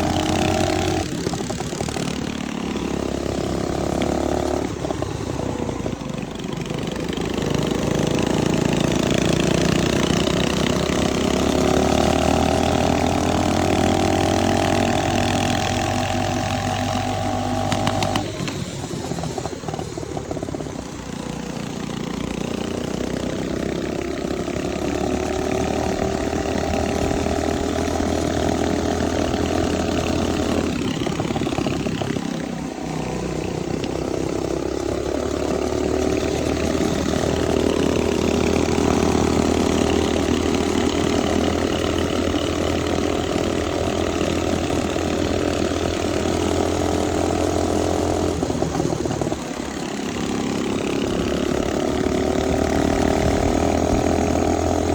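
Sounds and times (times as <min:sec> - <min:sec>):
mini bike engine running: 0:00.0 - 0:54.9.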